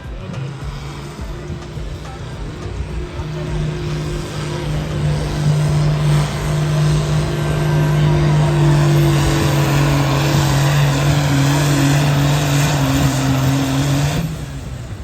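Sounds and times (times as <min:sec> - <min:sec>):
engine running at full throttle: 0:00.0 - 0:15.0.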